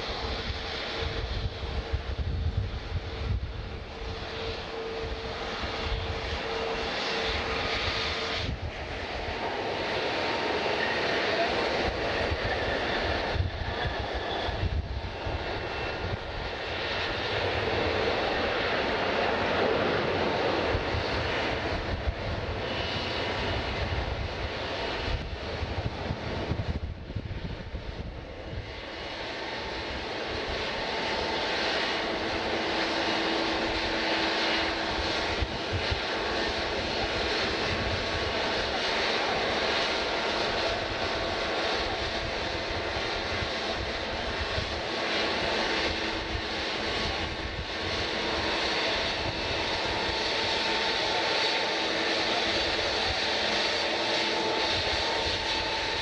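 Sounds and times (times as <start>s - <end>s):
airliner engines running: 0.0s - 56.0s.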